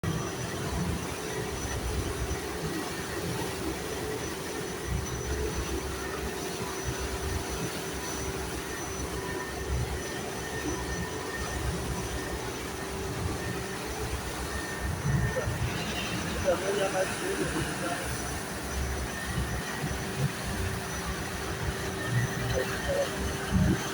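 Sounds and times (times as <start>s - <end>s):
boat engine running: 0.0s - 23.9s
wind rumbling on microphone: 0.0s - 23.9s.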